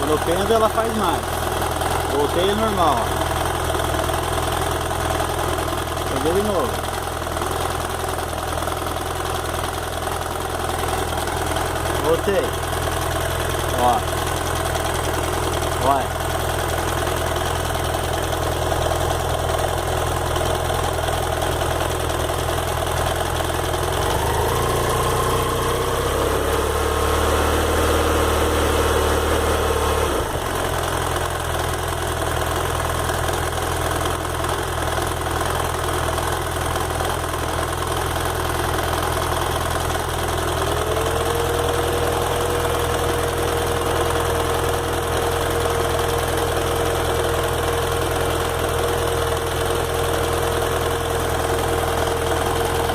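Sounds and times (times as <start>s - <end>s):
motorcycle engine idling: 0.0s - 27.4s, 29.4s - 52.9s.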